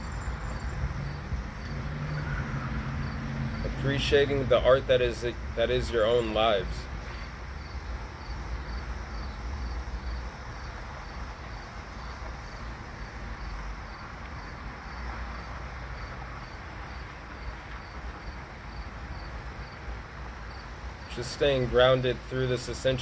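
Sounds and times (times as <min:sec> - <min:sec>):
insect chirping: 0:00.0 - 0:21.7.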